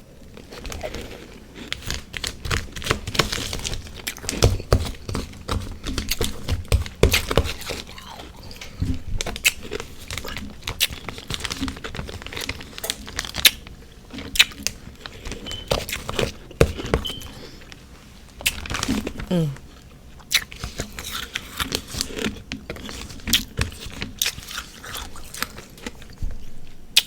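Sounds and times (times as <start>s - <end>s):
soft chewing: 0.2s - 27.0s.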